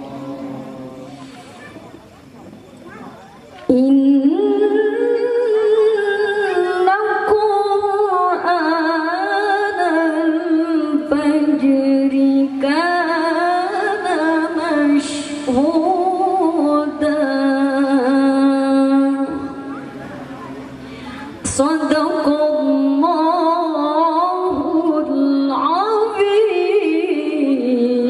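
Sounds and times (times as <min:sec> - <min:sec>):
woman chanting into a microphone: 0:03.7 - 0:19.8, 0:21.0 - 0:28.0.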